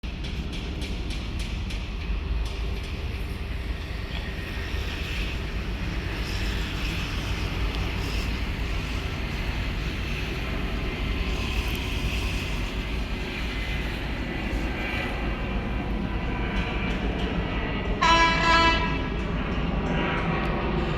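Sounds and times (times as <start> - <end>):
passenger train rumbling: 0.0 - 20.9.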